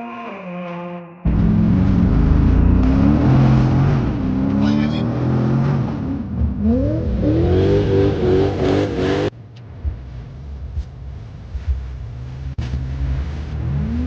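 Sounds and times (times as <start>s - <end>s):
low quiet rumble: 1.3s - 8.3s, 9.3s - 14.0s
car engine revving: 1.3s - 14.0s.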